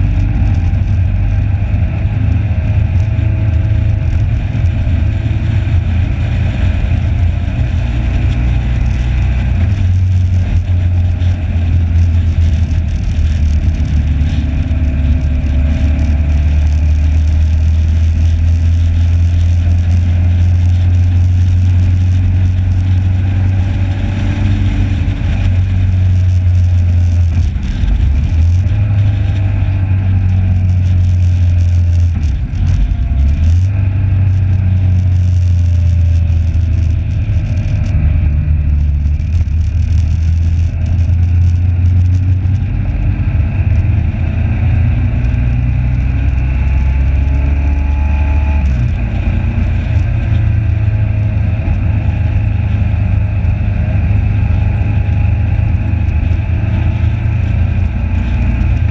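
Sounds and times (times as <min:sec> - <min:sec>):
motorcycle engine: 0:00.0 - 0:58.9.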